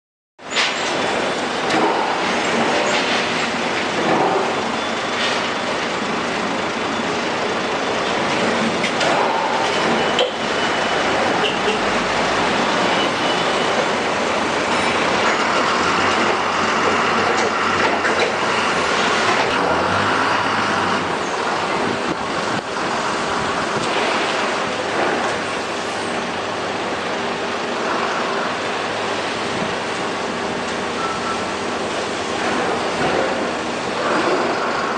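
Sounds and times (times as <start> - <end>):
loud machinery noise: 0.4 - 34.9.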